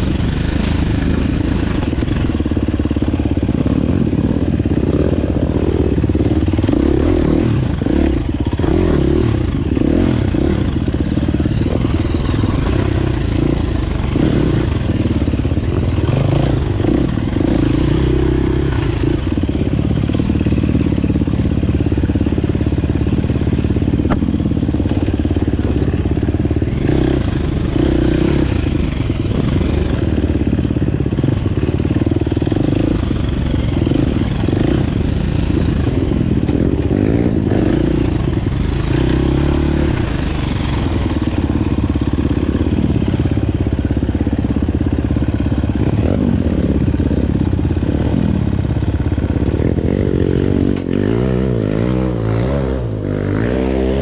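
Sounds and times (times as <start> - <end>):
dirt bike engine revving: 0.0 - 43.5, 45.5 - 48.5, 49.4 - 54.0.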